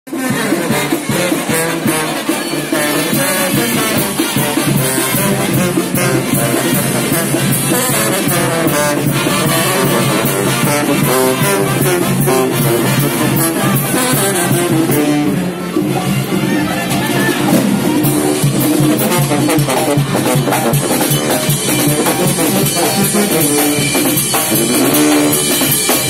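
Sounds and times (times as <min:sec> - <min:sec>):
drum beat: 0:00.1 - 0:16.3, 0:16.9 - 0:26.0
brass band playing: 0:00.1 - 0:26.0.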